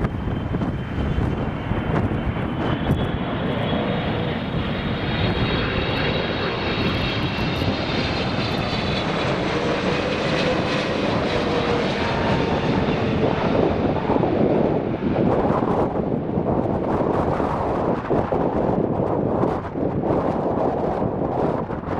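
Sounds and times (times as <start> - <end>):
airliner engines passing: 0.0 - 21.9.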